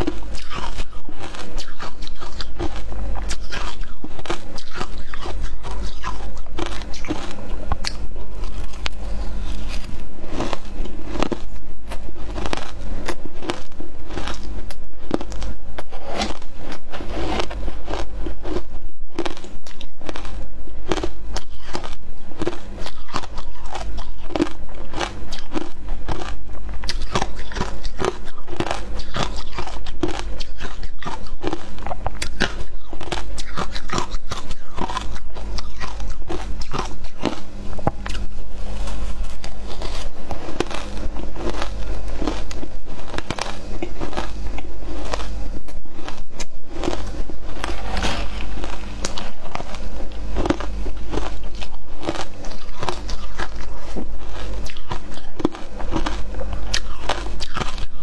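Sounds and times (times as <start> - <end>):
ice crunching being chewed: 0.0 - 58.0.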